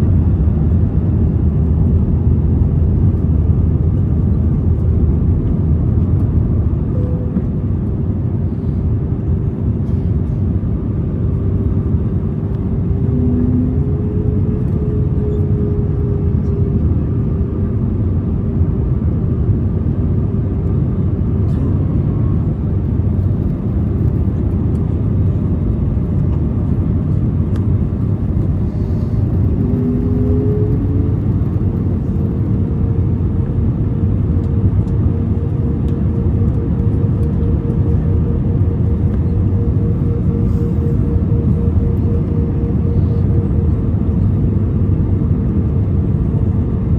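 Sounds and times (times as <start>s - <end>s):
airplane engine drone: 0.0s - 46.9s
faint hum: 0.0s - 46.9s.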